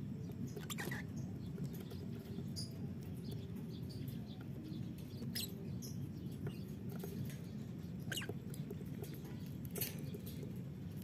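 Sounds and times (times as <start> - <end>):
lovebirds chirping and squeaking: 0.0 - 11.0
low background hum: 0.0 - 11.0.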